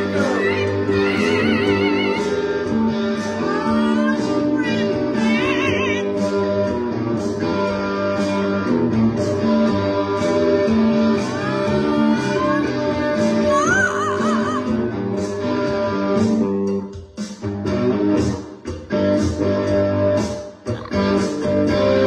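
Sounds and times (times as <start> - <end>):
electric guitar and bass rock riff: 0.0 - 22.0.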